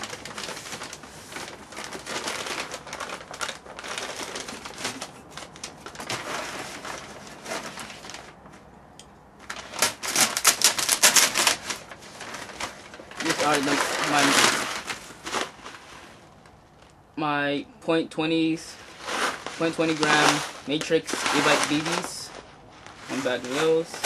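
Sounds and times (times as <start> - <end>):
plastic packaging crinkling: 0.0 - 8.7, 9.4 - 17.0, 18.6 - 24.0.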